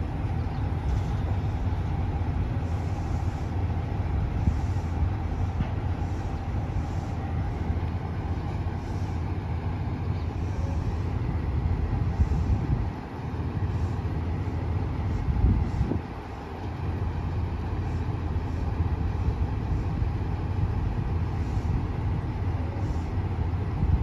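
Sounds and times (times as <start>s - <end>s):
diesel railcar engine rumbling: 0.0s - 24.0s.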